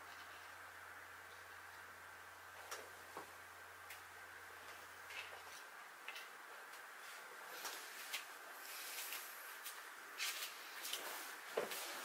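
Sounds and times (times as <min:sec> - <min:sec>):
low room hiss: 0:00.0 - 0:12.0.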